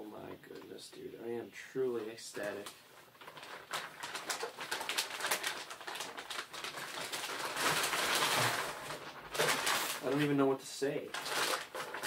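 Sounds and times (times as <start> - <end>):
plastic packaging crinkling: 1.9 - 12.0.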